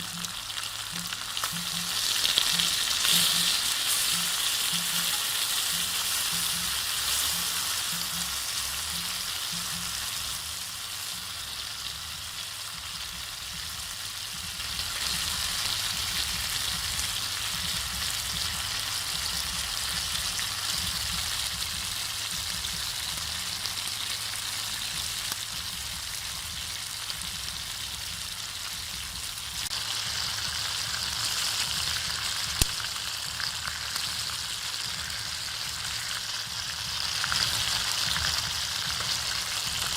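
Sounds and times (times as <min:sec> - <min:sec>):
ribs sizzling in hot oil: 0:00.0 - 0:39.9.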